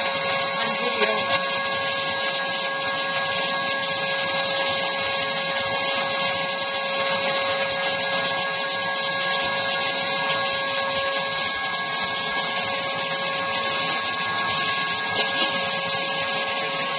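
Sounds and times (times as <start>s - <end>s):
motor whine: 0.0s - 16.9s.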